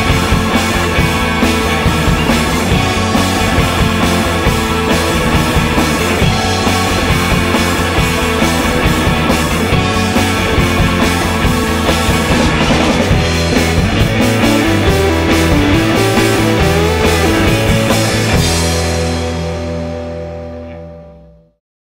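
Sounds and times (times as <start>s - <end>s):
drum kit playing hard: 0.0s - 20.3s
rock band music: 0.0s - 21.3s
held guitar chord ringing: 1.0s - 11.1s, 13.3s - 21.0s.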